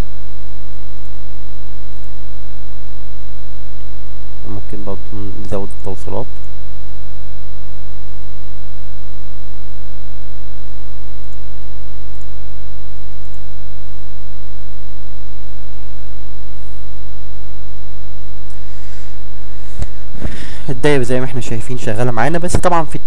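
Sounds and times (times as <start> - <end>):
electrical mains hum: 0.0 - 23.0
thin high whine: 0.0 - 23.0.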